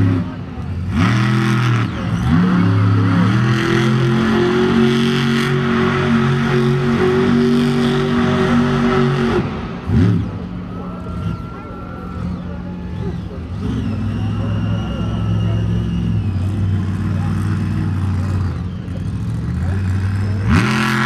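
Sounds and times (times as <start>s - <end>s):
monster truck engine revving: 0.0s - 21.0s
truck churning through dirt: 0.0s - 21.0s.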